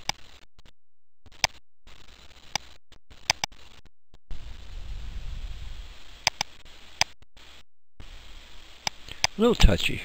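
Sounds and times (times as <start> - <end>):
faint steady hiss: 1.4 - 10.0.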